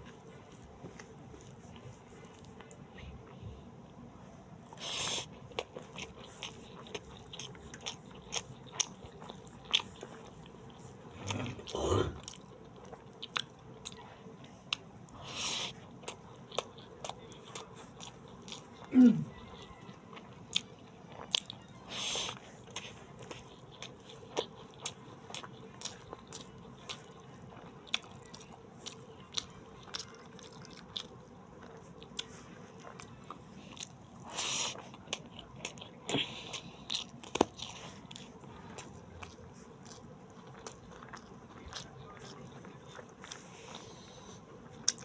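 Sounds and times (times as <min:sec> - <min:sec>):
person chewing with mouth clicks: 0:04.7 - 0:14.0, 0:14.7 - 0:45.0.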